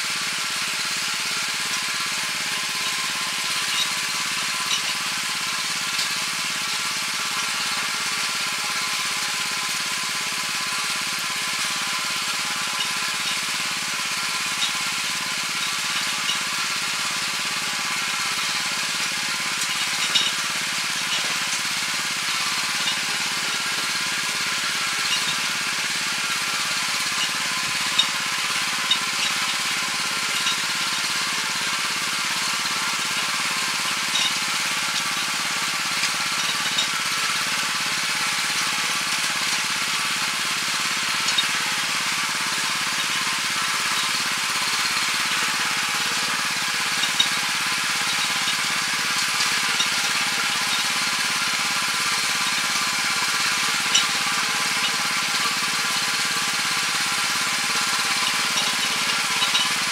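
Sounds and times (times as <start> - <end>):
tiller engine running under load: 0.0 - 59.9.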